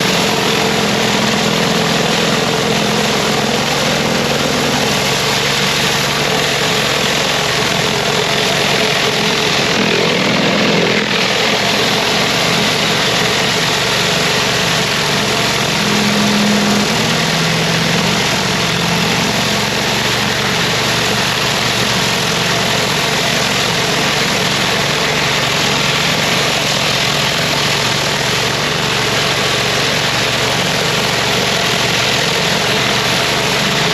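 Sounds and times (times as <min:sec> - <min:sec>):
pressure washer engine droning: 0:00.0 - 0:33.9
water jet hissing on paving: 0:00.0 - 0:33.9.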